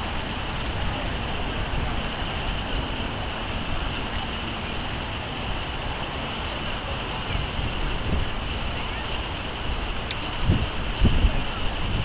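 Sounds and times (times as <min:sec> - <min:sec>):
outdoor background rush: 0:00.0 - 0:12.0
wind buffeting microphone: 0:00.0 - 0:12.0.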